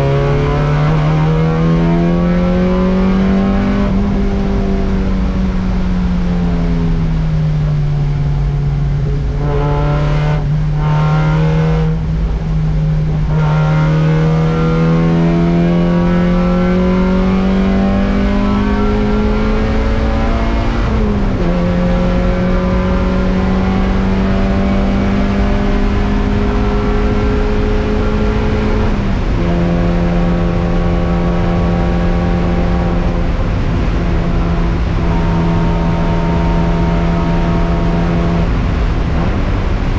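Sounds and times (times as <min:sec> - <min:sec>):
race car engine revving high: 0:00.0 - 0:39.9.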